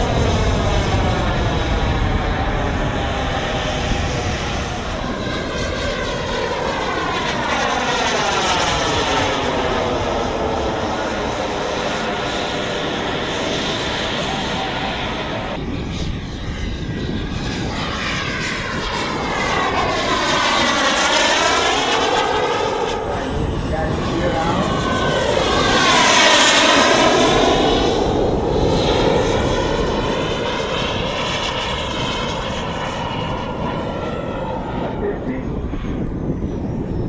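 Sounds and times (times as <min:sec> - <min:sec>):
model jet roaring by: 0:00.0 - 0:37.0.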